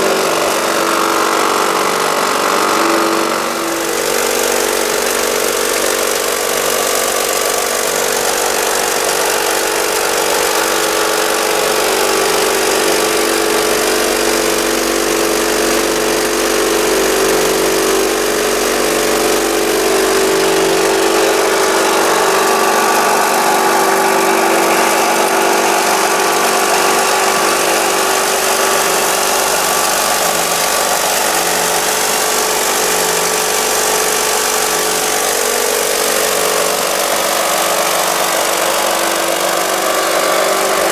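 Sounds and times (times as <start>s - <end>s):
motor hum: 0.0s - 40.9s.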